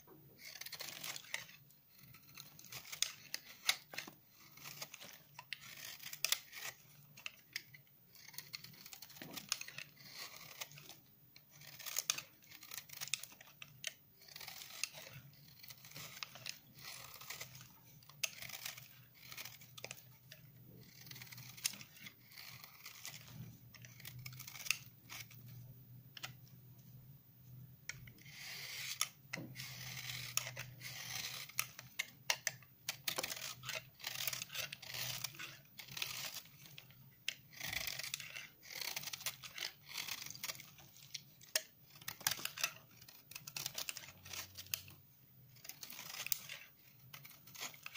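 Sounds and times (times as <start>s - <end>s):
knife scraping soap: 0.4s - 26.5s, 27.8s - 47.9s.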